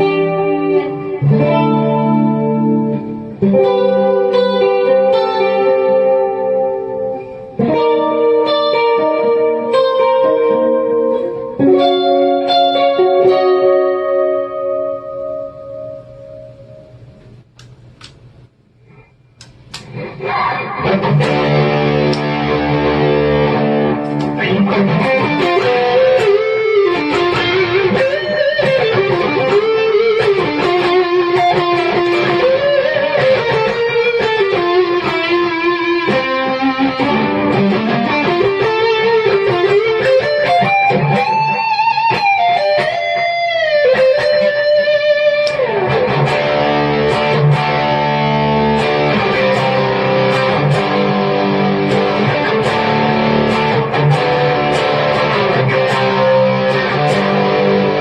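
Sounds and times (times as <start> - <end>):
electric guitar chord ringing: 0.0 - 17.6, 19.4 - 58.0
electric guitar lead melody: 0.0 - 18.3, 19.7 - 58.0.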